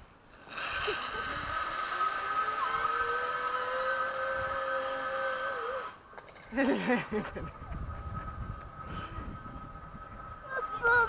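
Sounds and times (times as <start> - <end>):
zip line pulleys whirring: 0.0 - 11.0.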